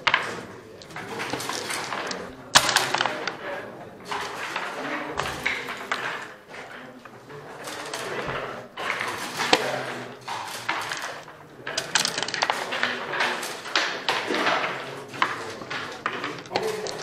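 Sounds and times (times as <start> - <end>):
dice and checkers clacking on board: 0.0 - 17.0.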